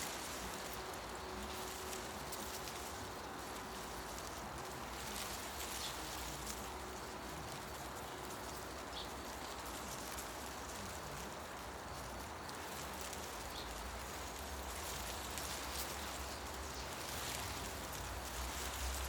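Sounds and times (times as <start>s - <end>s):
wind through tree leaves: 0.0s - 19.0s.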